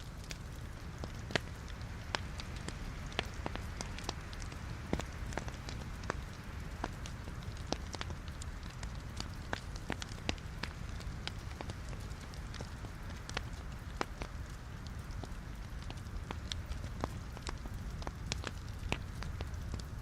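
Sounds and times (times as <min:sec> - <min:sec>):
fire rumble and hiss: 0:00.0 - 0:20.0
wood fire crackling and popping: 0:00.0 - 0:20.0.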